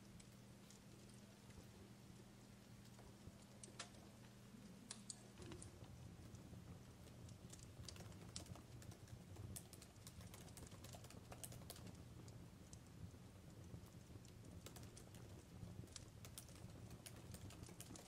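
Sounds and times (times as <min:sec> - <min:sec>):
fireplace crackling: 0:00.0 - 0:18.0.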